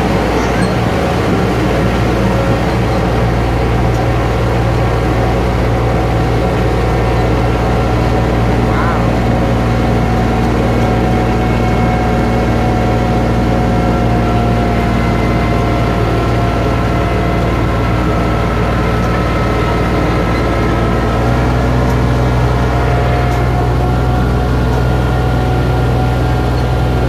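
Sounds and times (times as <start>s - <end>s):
ride train engine humming: 0.0s - 27.0s.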